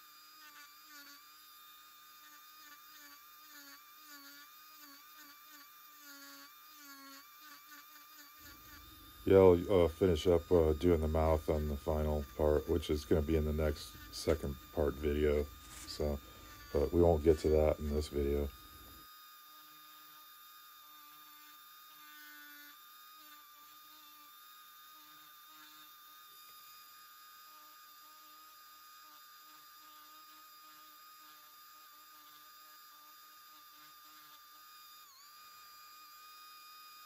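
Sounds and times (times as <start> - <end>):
rotary tool whining on wood: 0.0 - 37.0.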